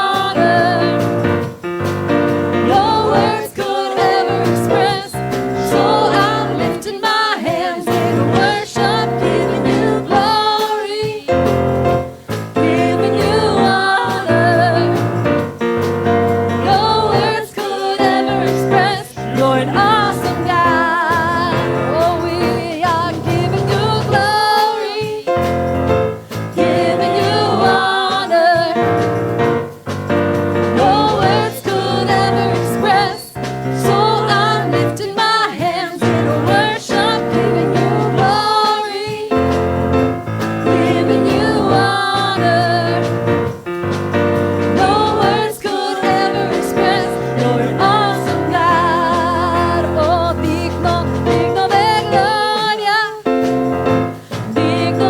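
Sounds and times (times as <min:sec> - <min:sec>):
choir singing gospel: 0:00.0 - 0:55.0
piano and keyboard: 0:00.0 - 0:55.0.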